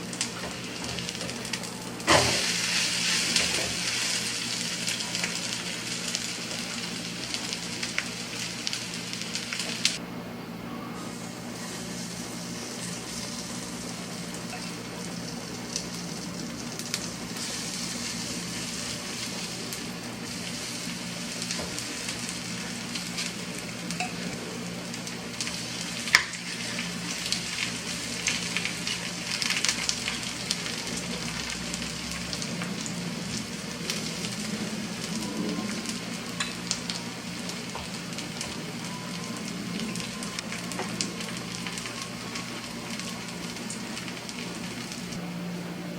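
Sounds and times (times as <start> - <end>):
food sizzling in a pan: 0.0 - 10.0, 11.0 - 45.7.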